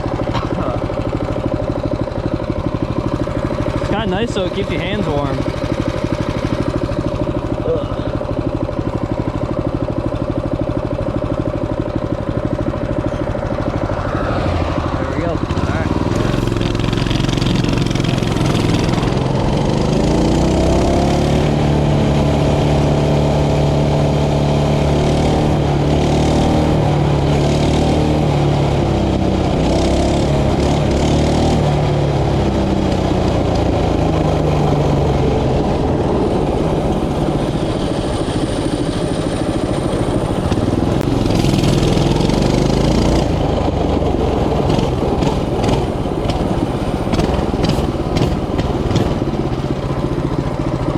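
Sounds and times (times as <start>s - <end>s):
mini bike engine revving: 0.0s - 50.9s.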